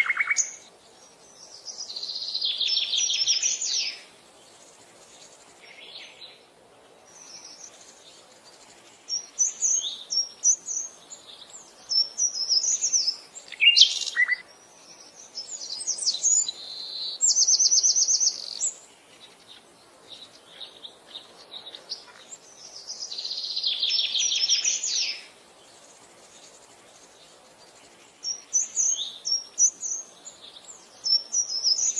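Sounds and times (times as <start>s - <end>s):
songbirds chirping and whistling: 0.0s - 31.9s.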